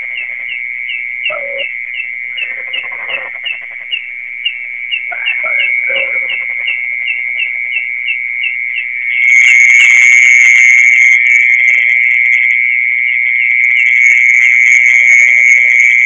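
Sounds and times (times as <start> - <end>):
mole cricket trilling: 0.0 - 16.0.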